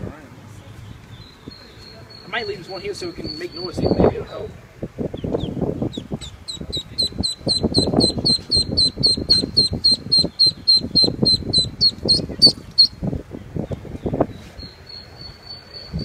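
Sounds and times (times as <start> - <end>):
ducklings peeping: 0.8 - 16.0.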